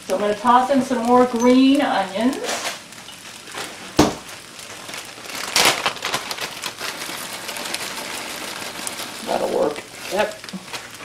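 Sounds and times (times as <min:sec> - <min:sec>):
sizzling crackle: 0:00.0 - 0:11.0.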